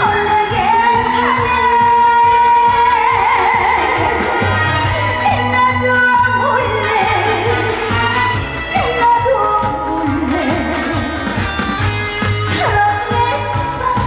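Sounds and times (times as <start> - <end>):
band accompaniment with bass: 0.0 - 14.0
woman singing with vibrato: 0.0 - 14.0.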